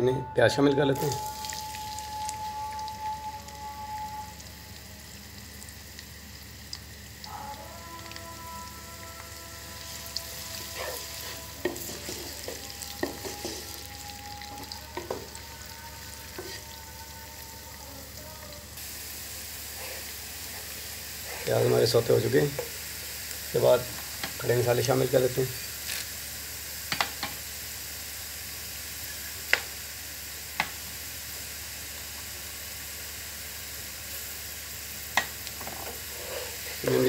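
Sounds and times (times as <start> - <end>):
onions sizzling in hot fat: 0.9 - 37.0.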